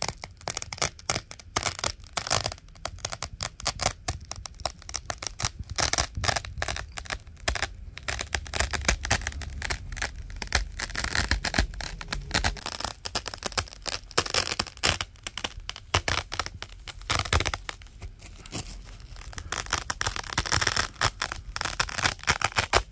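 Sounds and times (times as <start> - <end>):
velcro ripping: 0.0 - 22.9.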